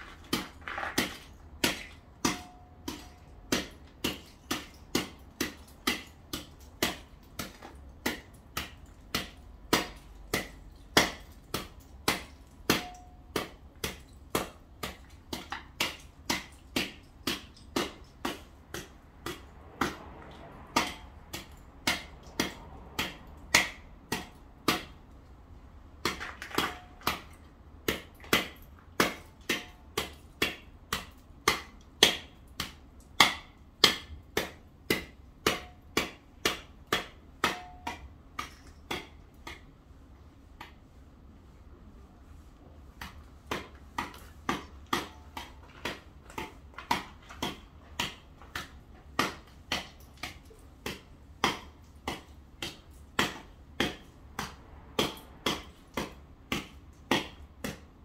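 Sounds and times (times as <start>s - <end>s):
hand tool chipping at ice: 0.0s - 25.2s, 25.9s - 39.7s, 42.9s - 58.0s.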